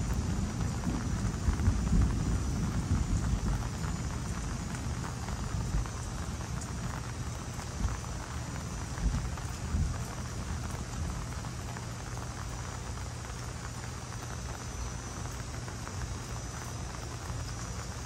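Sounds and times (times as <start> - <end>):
low rumble of thunder: 0.0 - 18.0
steady rain falling: 0.0 - 18.0.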